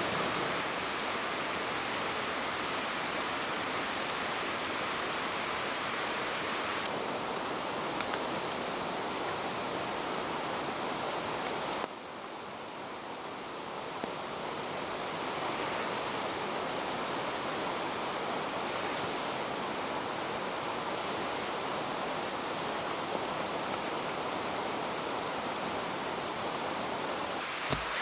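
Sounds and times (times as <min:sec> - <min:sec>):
running water rushing: 0:00.0 - 0:28.0.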